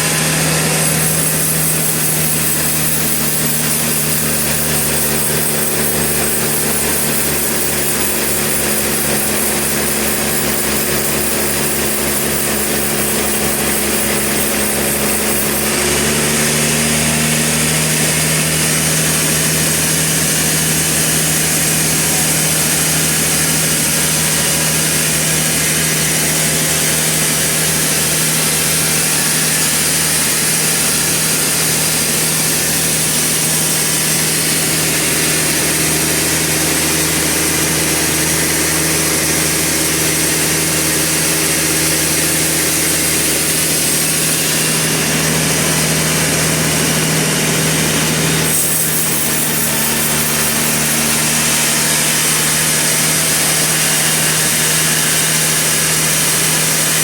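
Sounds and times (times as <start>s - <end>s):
motor hum: 0.0s - 57.0s
saw noise: 0.0s - 57.0s.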